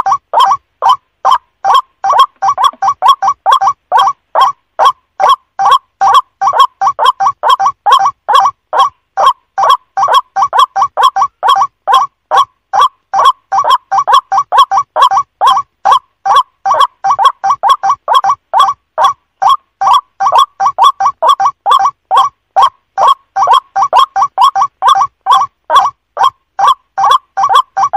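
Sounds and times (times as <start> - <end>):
waterhen calling: 0.0 - 27.9.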